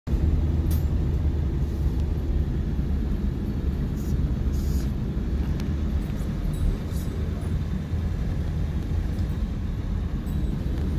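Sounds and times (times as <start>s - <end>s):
bus engine and road noise: 0.1s - 10.9s.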